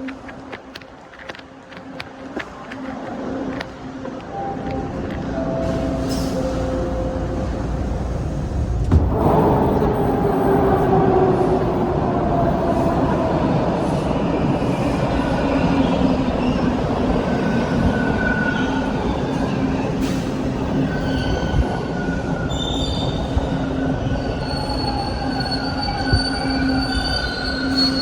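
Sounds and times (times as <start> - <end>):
subway train motor whine: 3.8 - 28.0.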